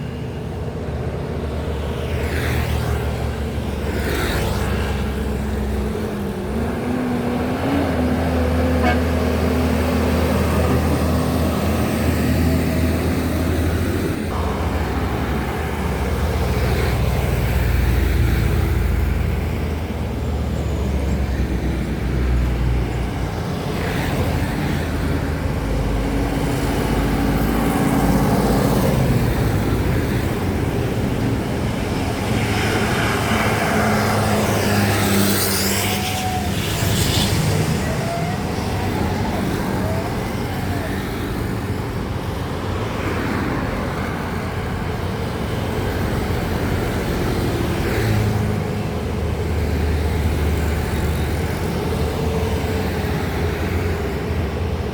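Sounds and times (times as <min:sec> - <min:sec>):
trucks and vehicles driving past: 0:00.0 - 0:54.9.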